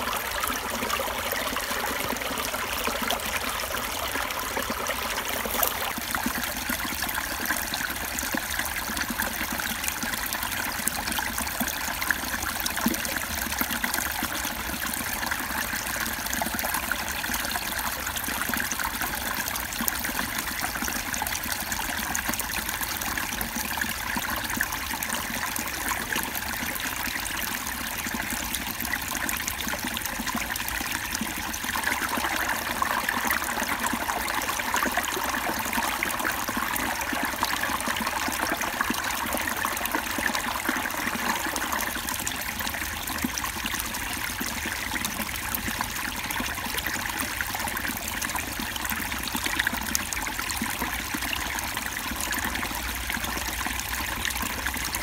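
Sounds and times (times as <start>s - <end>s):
creek babbling over stones: 0.0s - 55.0s.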